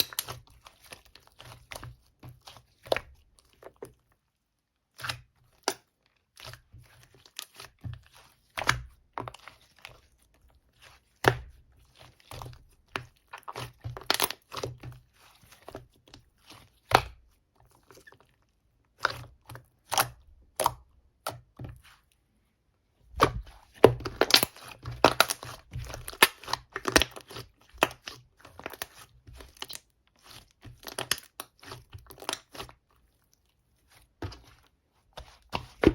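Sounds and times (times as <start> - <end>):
hands kneading sticky slime: 0.0 - 35.9.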